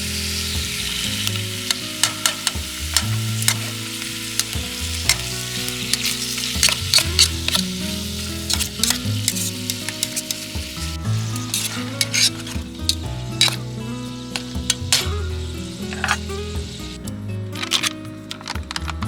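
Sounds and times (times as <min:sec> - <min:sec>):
food sizzling in a pan: 0:00.0 - 0:18.6
fire popping and crackling: 0:00.0 - 0:18.8
background music: 0:00.0 - 0:19.0.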